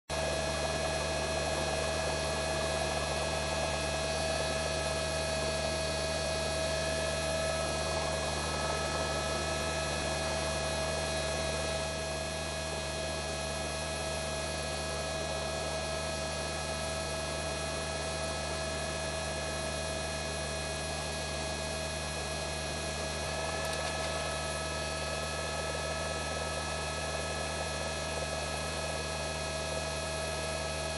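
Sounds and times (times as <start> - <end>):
steady hum of held tones: 0.1 - 30.9.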